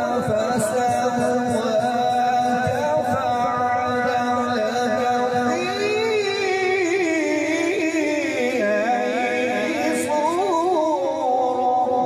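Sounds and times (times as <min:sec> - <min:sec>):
person chanting melodic recitation: 0:00.0 - 0:12.0.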